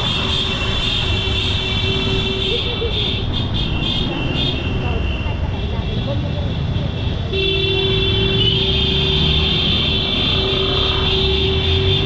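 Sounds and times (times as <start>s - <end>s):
motorbike engines and road noise: 0.0s - 12.0s.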